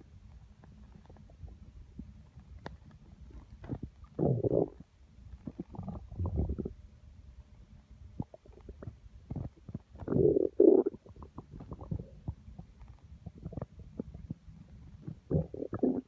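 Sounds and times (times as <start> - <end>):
stomach growling and gurgling: 0.7 - 6.8, 8.2 - 16.0.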